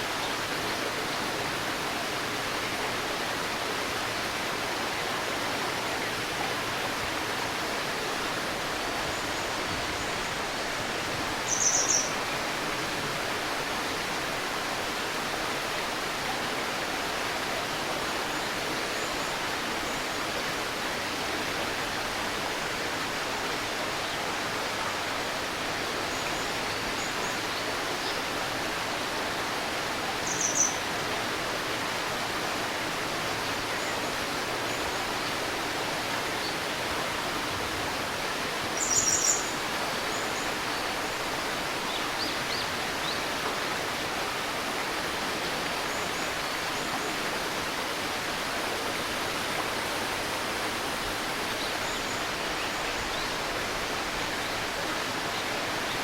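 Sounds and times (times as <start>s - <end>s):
stream babbling: 0.0s - 56.0s.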